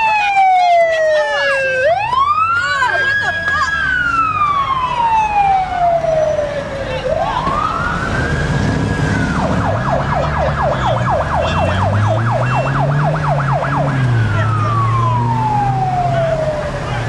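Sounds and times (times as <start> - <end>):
emergency siren wailing and yelping: 0.0 - 17.0.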